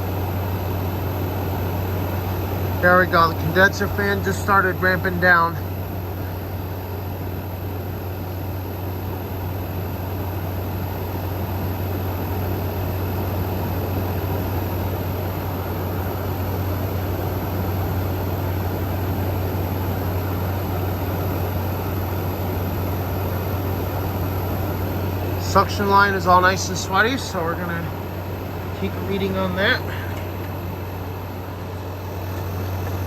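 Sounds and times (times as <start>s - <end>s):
air conditioner humming: 0.0s - 33.0s.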